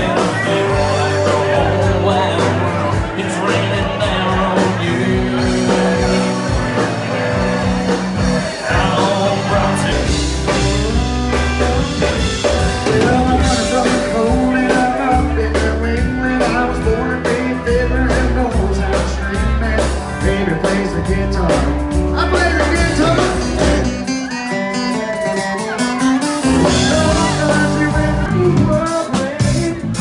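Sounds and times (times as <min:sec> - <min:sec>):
bass guitar: 0:00.0 - 0:30.0
drum kit: 0:00.0 - 0:30.0
electric guitars: 0:00.0 - 0:30.0
person singing: 0:00.0 - 0:30.0.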